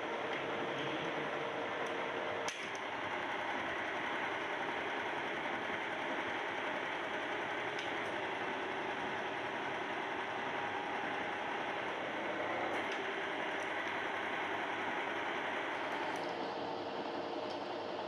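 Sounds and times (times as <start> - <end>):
workshop machinery humming: 0.0 - 18.0.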